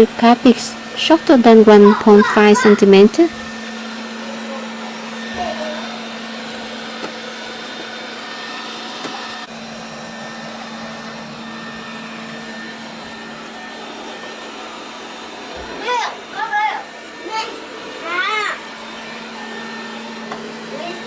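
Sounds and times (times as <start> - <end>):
robot vacuum cleaner running: 0.0 - 21.0.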